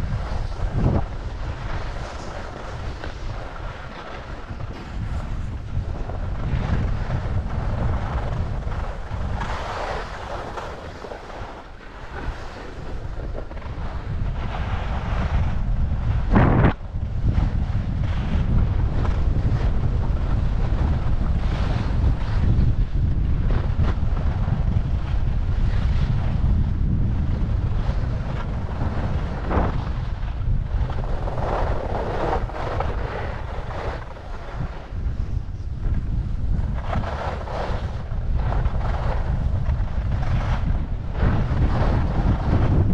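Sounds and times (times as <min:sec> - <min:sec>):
skis sliding on snow: 0:00.0 - 0:42.9
wind buffeting microphone: 0:00.0 - 0:42.9.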